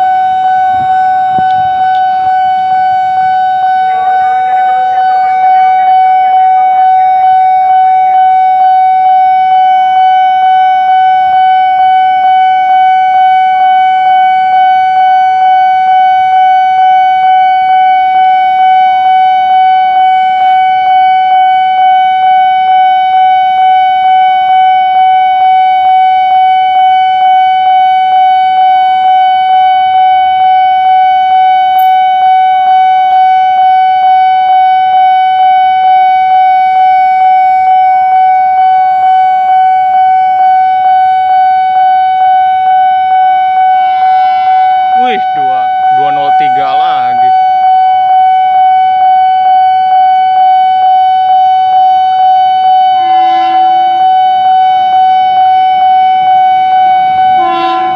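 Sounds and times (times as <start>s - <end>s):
level crossing warning bell: 0.0s - 57.9s.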